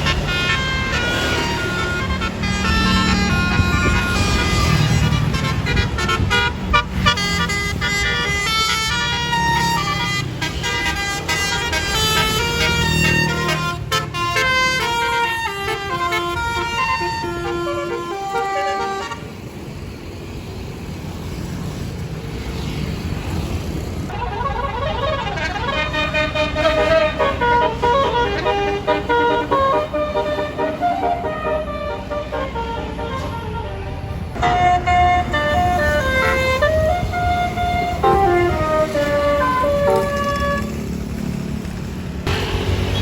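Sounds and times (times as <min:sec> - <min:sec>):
multi-note bus horn melody: 0:00.0 - 0:19.5, 0:24.1 - 0:41.4, 0:42.3 - 0:43.0
bus engine idling: 0:00.0 - 0:22.3, 0:23.0 - 0:43.0.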